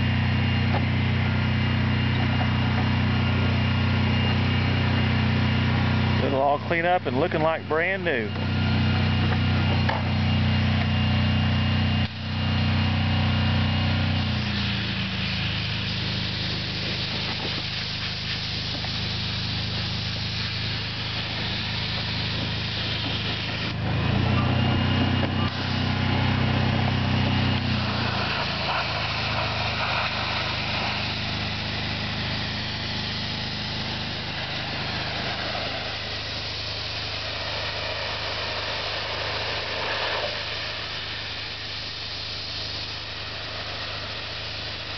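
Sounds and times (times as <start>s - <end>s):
water spray hissing: 0.0s - 10.9s, 13.8s - 44.9s
pressure washer engine running: 0.0s - 44.9s.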